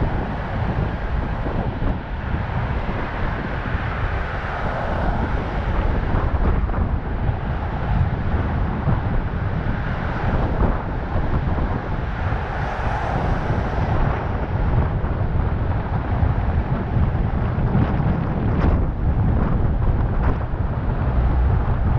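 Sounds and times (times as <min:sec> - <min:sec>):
vehicle rumble: 0:00.0 - 0:21.9
wind buffeting microphone: 0:00.0 - 0:21.9.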